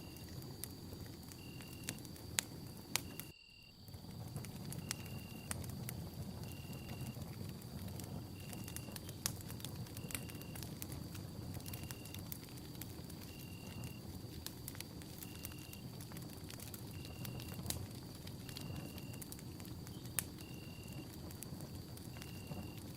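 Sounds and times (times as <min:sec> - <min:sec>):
campfire flame rumble: 0:00.0 - 0:22.9
fire crackling and popping: 0:00.0 - 0:22.9.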